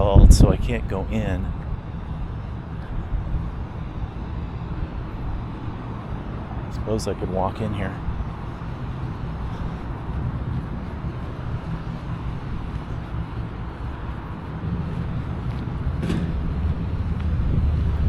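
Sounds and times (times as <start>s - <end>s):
road traffic rumble: 0.0s - 18.0s
wind on microphone: 0.0s - 18.0s.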